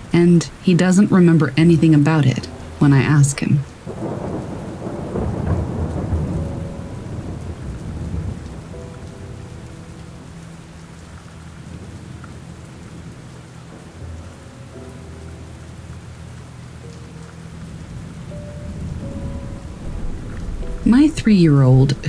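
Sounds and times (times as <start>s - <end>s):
steady rainfall: 0.0s - 22.0s
thunder rumbling: 0.0s - 22.0s.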